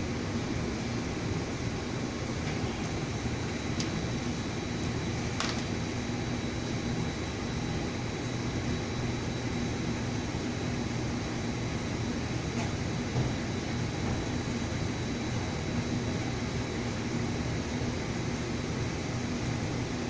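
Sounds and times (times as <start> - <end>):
mechanical hum with high whine: 0.0 - 20.0.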